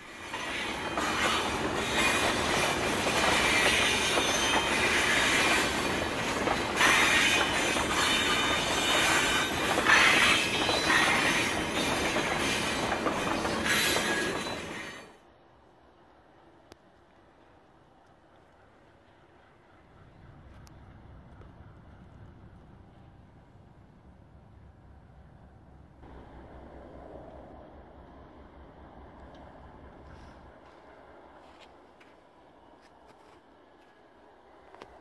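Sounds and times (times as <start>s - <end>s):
freight train wheels on rails: 0.0s - 15.2s, 16.5s - 35.0s.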